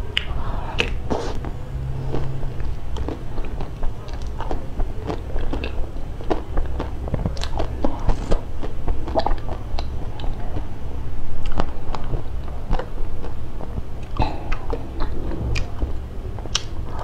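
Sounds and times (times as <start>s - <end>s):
person chewing food wetly: 0.0s - 17.0s.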